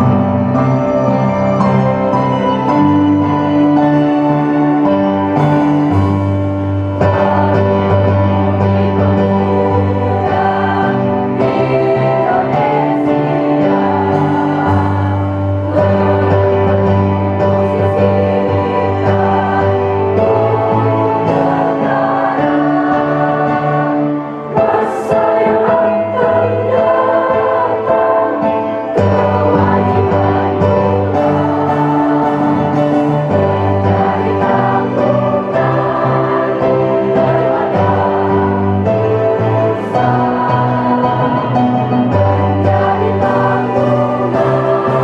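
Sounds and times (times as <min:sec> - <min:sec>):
choir singing slow song: 0:00.0 - 0:45.0.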